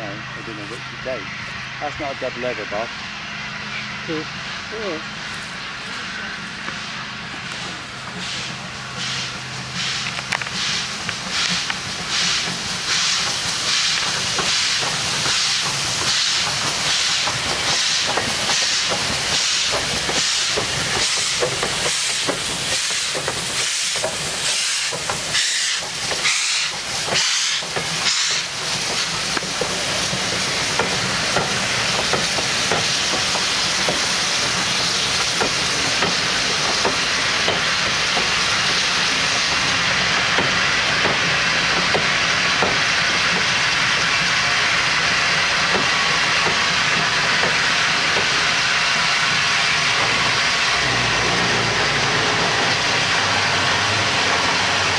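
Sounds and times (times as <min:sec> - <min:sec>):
steady hiss of steam: 0:00.0 - 0:54.9
steam locomotive exhaust chuffing: 0:00.0 - 0:54.9.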